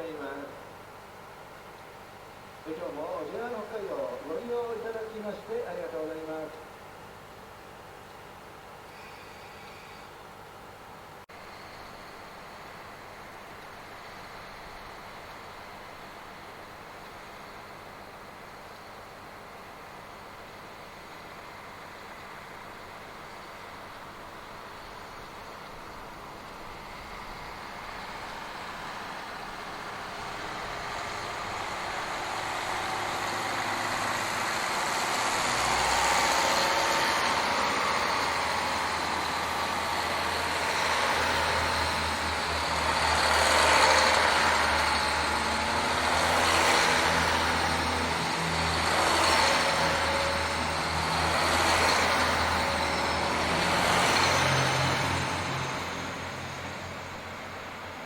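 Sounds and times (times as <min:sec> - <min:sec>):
diesel train rolling past: 0:00.0 - 0:58.0.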